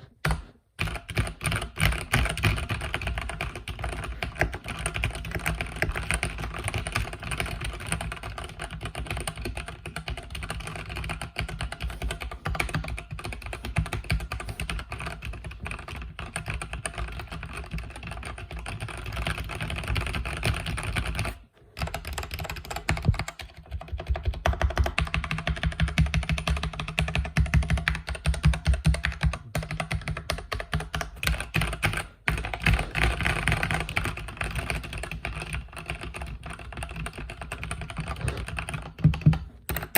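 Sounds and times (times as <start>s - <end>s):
mechanical keyboard typing: 0.2s - 39.9s.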